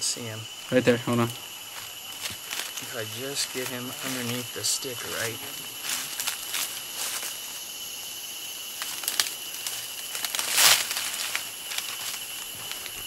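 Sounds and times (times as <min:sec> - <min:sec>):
dry leaves rustling and crackling: 0:01.4 - 0:07.7, 0:08.6 - 0:13.0.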